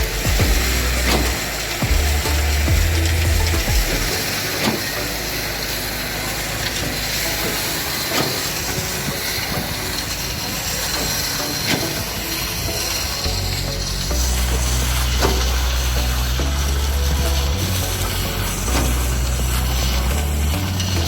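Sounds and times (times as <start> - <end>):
concrete pump hissing: 0.0 - 21.0.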